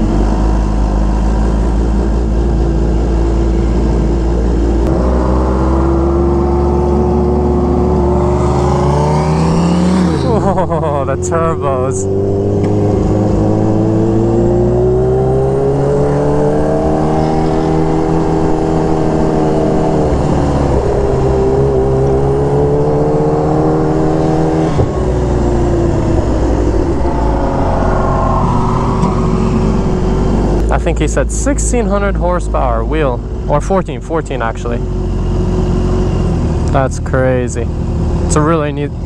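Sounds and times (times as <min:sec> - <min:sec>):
engines running on road: 0:00.0 - 0:39.0.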